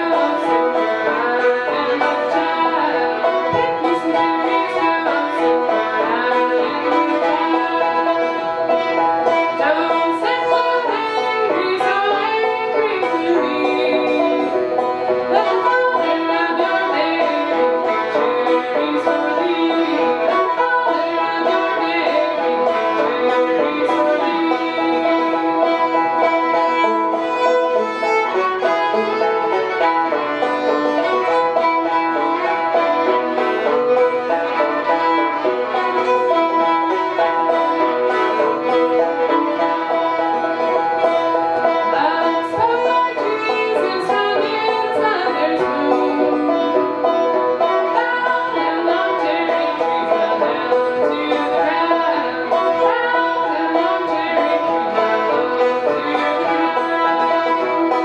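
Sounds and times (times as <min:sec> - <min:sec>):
bowed fiddle melody: 0:00.0 - 0:58.0
plucked banjo notes: 0:00.0 - 0:58.0.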